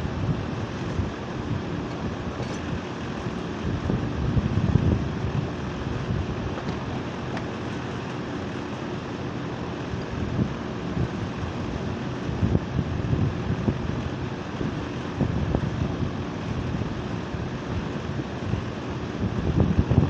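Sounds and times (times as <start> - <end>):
compressor hum: 0.0 - 20.0
condenser fan rushing: 0.0 - 20.0.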